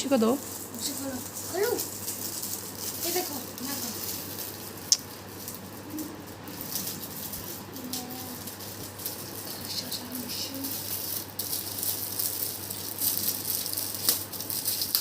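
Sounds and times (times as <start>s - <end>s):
wrapping paper crackling and rustling: 0.0s - 15.0s.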